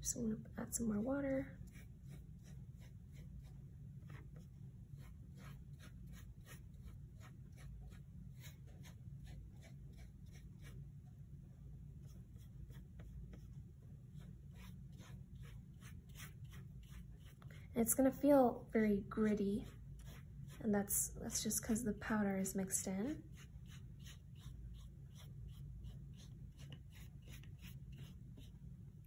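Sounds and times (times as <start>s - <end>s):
low steady hum: 0.0s - 29.0s
paintbrush scratching on paper: 1.0s - 10.9s, 12.0s - 18.2s, 19.0s - 21.8s, 22.7s - 29.0s.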